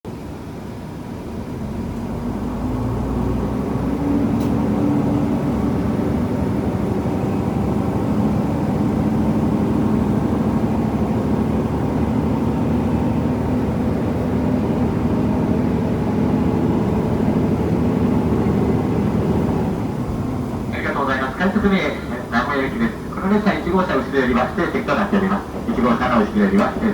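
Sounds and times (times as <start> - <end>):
diesel railcar engine droning: 0.1 - 26.9.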